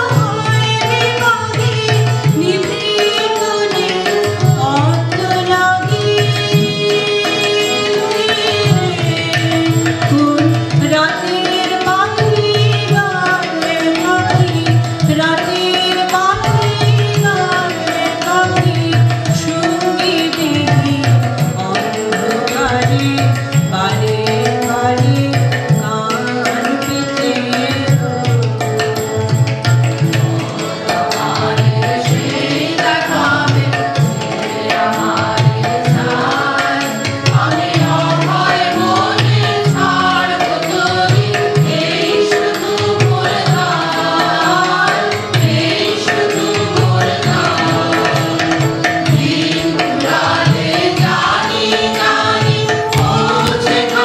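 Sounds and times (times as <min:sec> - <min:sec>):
hand drum rhythm: 0:00.0 - 0:54.0
voices singing: 0:00.0 - 0:54.0.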